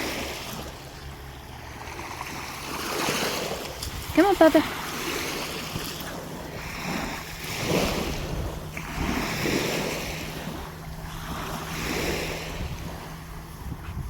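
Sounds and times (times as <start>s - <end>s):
steady low hum: 0.0s - 14.0s
waves washing onto beach: 0.0s - 14.0s
wind on microphone: 2.3s - 14.0s.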